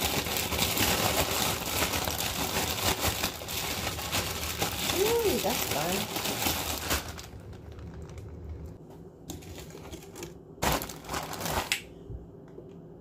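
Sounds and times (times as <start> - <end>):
plastic bag crinkling and rustling: 0.0 - 11.9.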